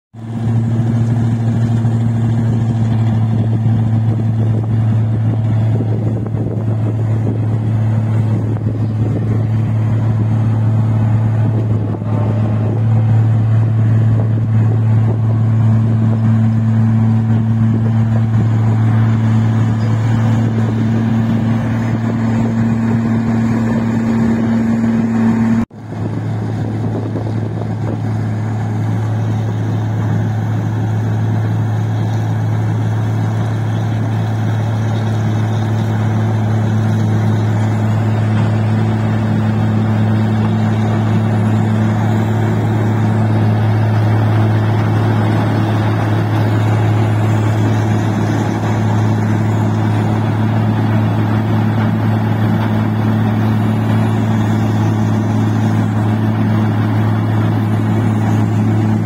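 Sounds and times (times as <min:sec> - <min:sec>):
diesel engine droning: 0:00.2 - 0:59.0.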